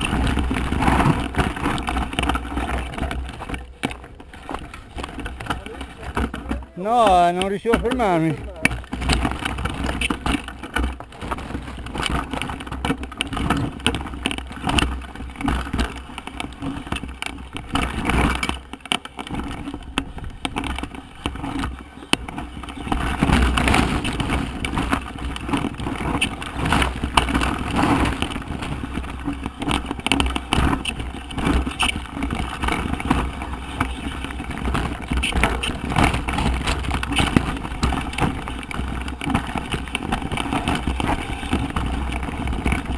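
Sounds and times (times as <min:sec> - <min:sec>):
bike rattling: 0:00.0 - 0:42.9
bike tyres crunching over stones: 0:00.0 - 0:42.9
wind rumble on microphone: 0:00.0 - 0:42.9.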